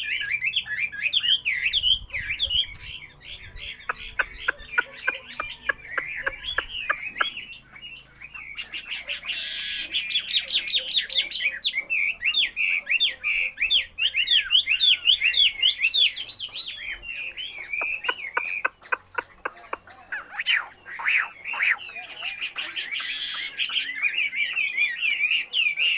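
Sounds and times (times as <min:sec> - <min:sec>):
songbird whistled song: 0:00.0 - 0:25.9.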